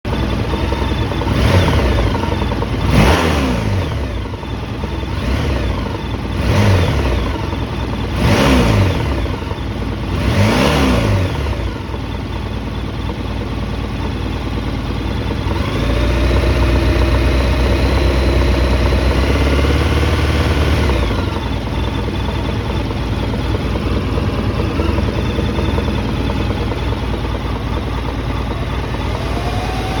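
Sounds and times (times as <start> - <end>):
engine knocking: 0.0 - 30.0
motorcycle engine revving: 0.1 - 30.0.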